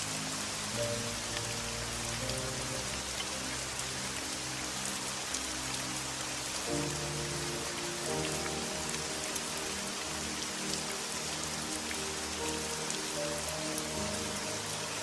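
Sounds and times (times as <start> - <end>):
soft music of low held notes: 0.0 - 15.0
steady rain: 0.0 - 15.0.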